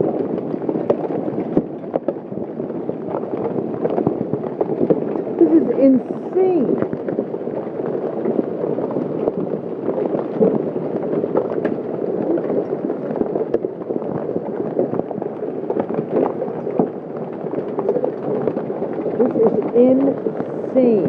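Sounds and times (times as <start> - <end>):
hailstones and heavy rain pounding: 0.0 - 21.0
hailstones cracking on ground: 0.0 - 21.0.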